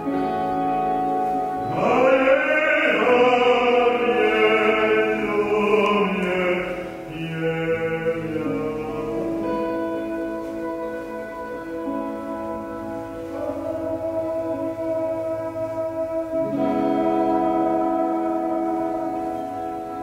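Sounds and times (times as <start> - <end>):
man singing long notes: 0.0 - 20.0
sustained instrumental music: 0.0 - 20.0.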